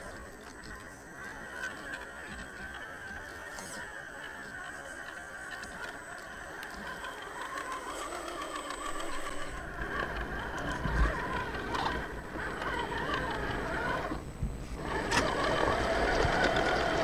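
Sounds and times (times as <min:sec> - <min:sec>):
electric motor and gears whining: 0:00.0 - 0:17.0.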